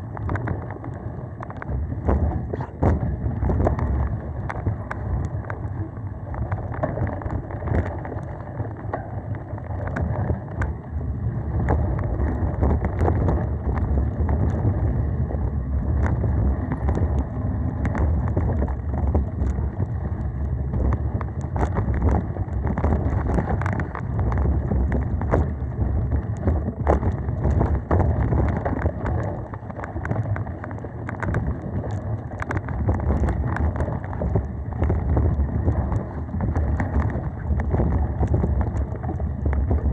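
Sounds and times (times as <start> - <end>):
tyre and wind noise: 0.0 - 39.9.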